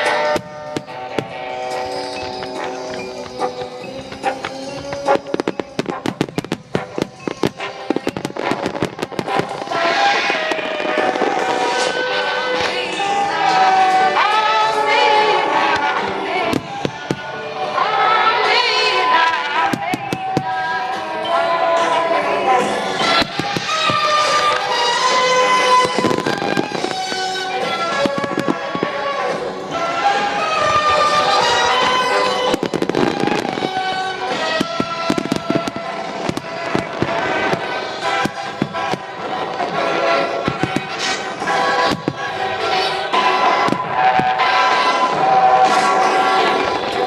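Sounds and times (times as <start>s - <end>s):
fireworks bangs and cracks: 0.0s - 47.0s
music with singing: 0.0s - 47.0s.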